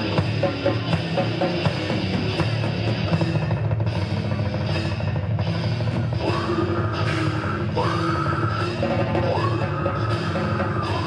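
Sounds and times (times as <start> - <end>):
bass guitar: 0.0 - 11.0
drum kit playing: 0.0 - 11.0
electric guitars: 0.0 - 11.0.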